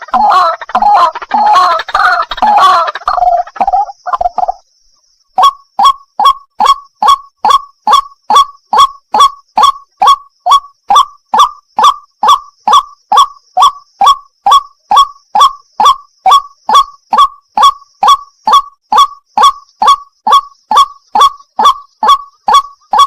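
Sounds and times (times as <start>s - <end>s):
waterhen calling harsh notes: 0.0s - 4.6s, 5.4s - 23.0s.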